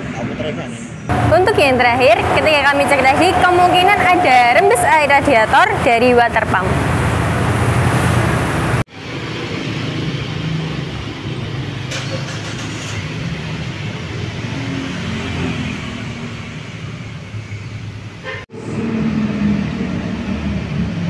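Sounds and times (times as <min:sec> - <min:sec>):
motor vehicle rumble: 0:00.0 - 0:21.0.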